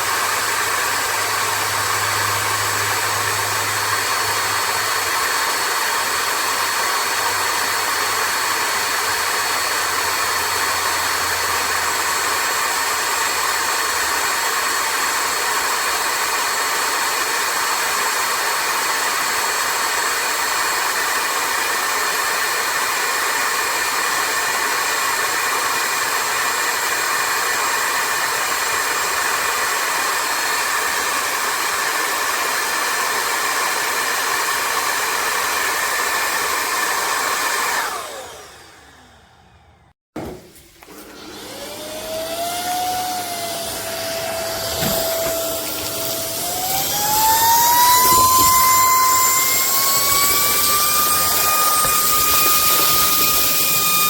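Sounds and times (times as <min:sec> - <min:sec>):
stick vacuum cleaner running: 0:00.0 - 0:54.0.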